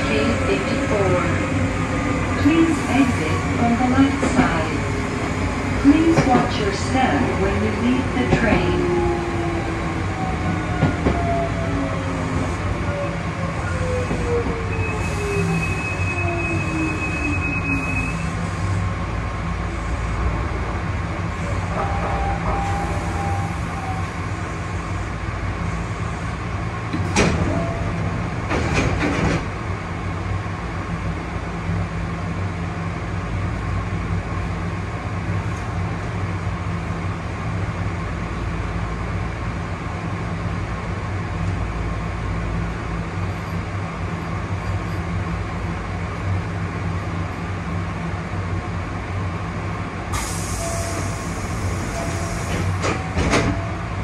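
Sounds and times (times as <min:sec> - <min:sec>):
train equipment hum: 0:00.0 - 0:54.0.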